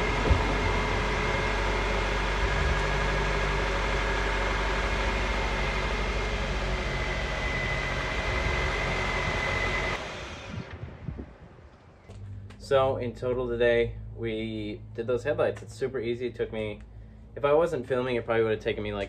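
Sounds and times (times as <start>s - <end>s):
car engine idling: 0.0s - 10.0s, 11.4s - 19.0s.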